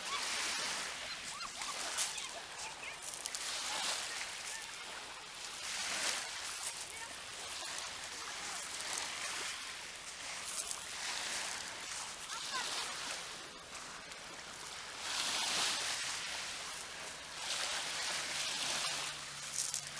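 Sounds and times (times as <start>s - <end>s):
sea water washing and sloshing: 0.0s - 19.9s.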